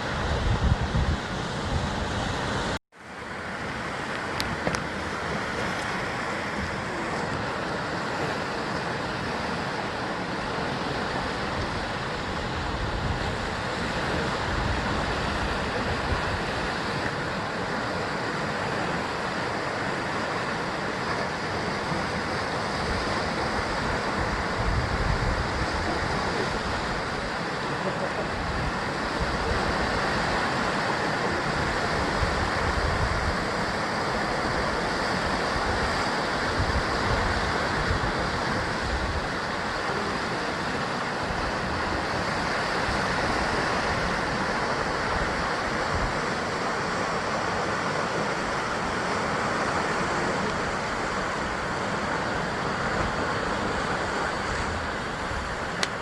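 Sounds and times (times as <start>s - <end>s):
wind buffeting microphone: 0.0s - 2.8s, 4.1s - 56.0s
ocean waves breaking on rocks: 0.0s - 56.0s.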